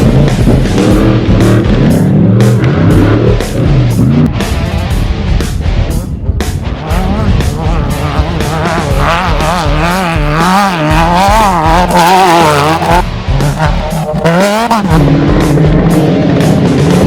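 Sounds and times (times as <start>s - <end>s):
race vehicle engine revving: 0.0s - 5.2s, 5.9s - 17.0s.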